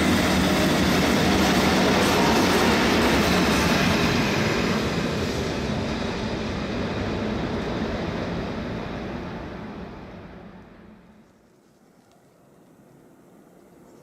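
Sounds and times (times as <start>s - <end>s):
train rumbling on rails: 0.0s - 11.4s.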